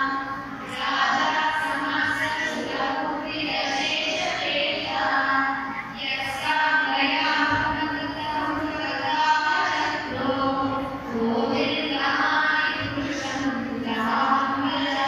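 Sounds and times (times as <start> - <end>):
group singing a chant: 0.0 - 15.0.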